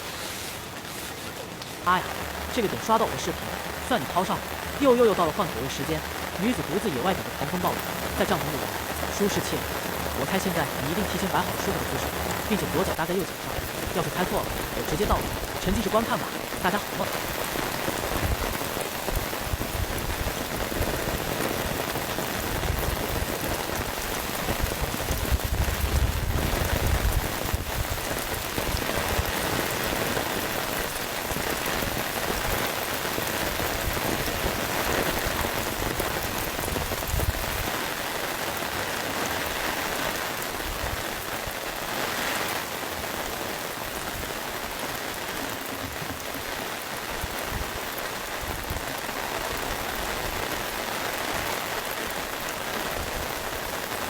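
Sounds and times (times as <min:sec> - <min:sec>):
heavy rain: 0:00.0 - 0:54.0
gusts of wind: 0:05.6 - 0:51.6.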